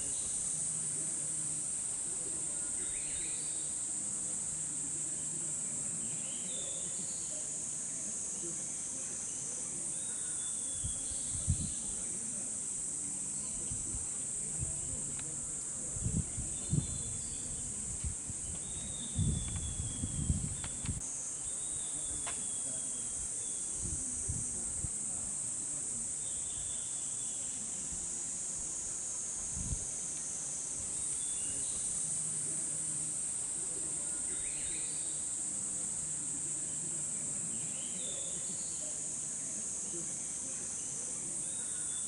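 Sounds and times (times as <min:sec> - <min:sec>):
cicadas droning: 0:00.0 - 0:42.0.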